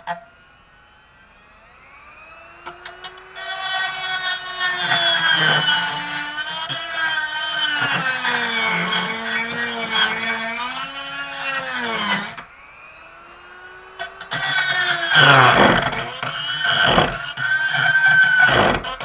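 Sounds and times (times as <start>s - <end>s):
rotary tool grinding metal: 2.6s - 12.5s, 13.4s - 19.0s.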